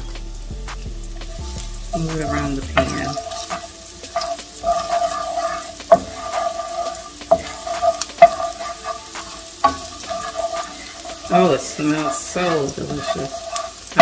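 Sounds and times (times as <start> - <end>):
garlic sizzling in oil: 0.0 - 14.0
wooden spoon knocking on pan: 1.2 - 14.0.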